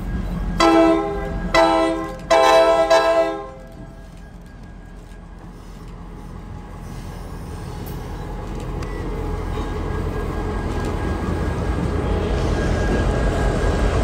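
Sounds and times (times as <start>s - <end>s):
diesel locomotive engines rumbling: 0.0s - 14.0s
train wheels on rails: 0.0s - 14.0s.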